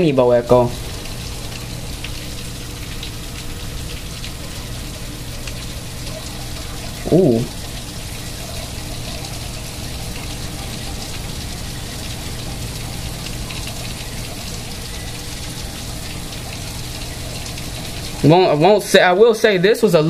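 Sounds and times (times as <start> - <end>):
heavy rain hissing: 0.6 - 19.0.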